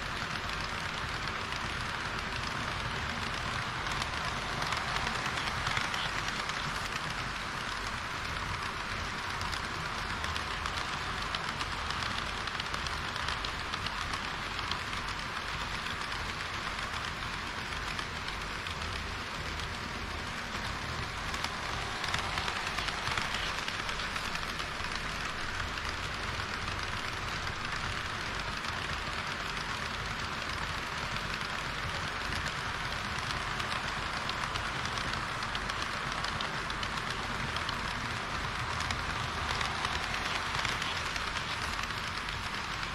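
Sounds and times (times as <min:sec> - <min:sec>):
model train wheels rattling: 0:00.0 - 0:42.9
wheels clicking over rail joints: 0:00.0 - 0:42.9.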